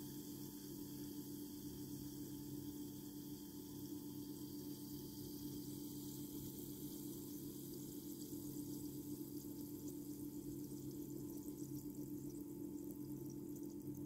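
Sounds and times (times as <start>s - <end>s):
faint fizzing of tablet: 0.0s - 14.0s
low electrical hum: 0.0s - 14.0s.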